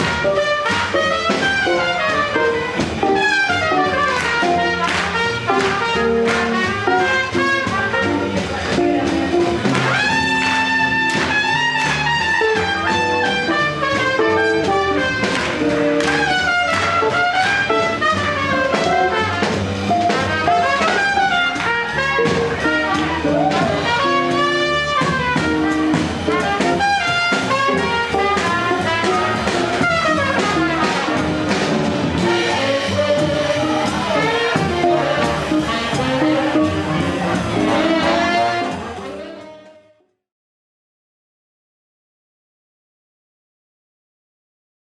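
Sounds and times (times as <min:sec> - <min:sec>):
swing jazz band playing: 0:00.0 - 0:40.0
trumpet and horns melody: 0:00.0 - 0:40.2.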